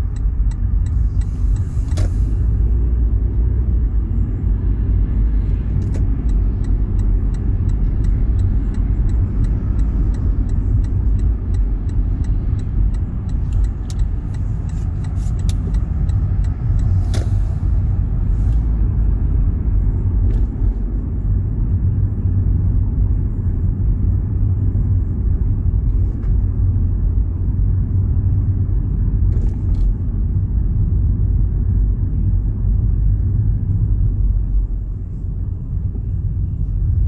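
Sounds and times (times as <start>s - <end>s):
car driving rumble: 0.0s - 37.0s.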